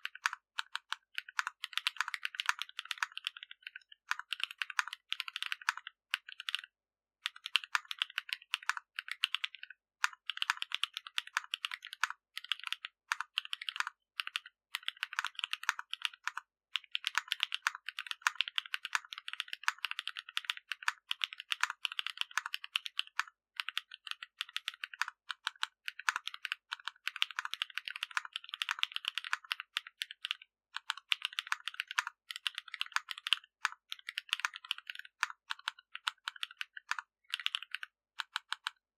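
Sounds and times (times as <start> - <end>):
mechanical keyboard typing: 0.0 - 38.8.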